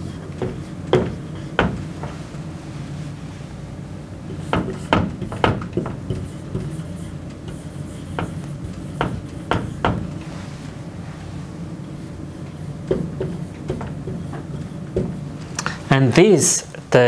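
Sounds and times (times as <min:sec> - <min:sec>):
marker stroking whiteboard: 0:00.0 - 0:16.3
low room hum: 0:00.0 - 0:17.0.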